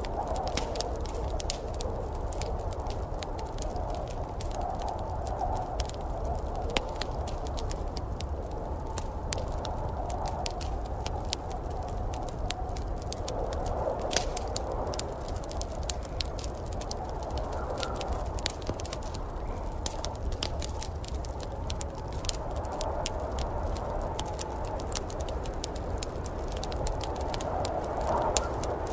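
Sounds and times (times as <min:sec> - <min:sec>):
fire crackling and popping: 0:00.0 - 0:28.9.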